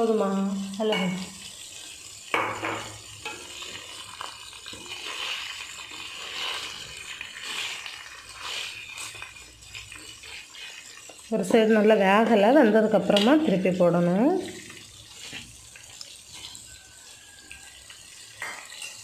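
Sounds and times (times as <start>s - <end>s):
meat sizzling in hot oil: 0.0s - 19.0s
spatula scraping pan: 0.9s - 17.4s, 18.4s - 19.0s.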